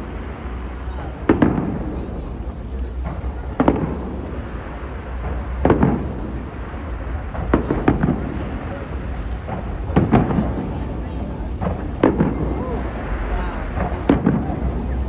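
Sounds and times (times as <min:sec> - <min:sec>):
fireworks bursting: 0:00.0 - 0:15.0
low background rumble: 0:00.0 - 0:15.0.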